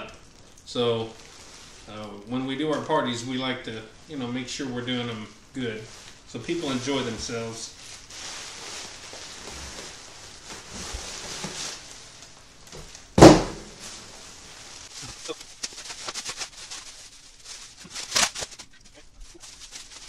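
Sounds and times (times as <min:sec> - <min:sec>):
plastic packaging rustling: 0:00.0 - 0:20.0.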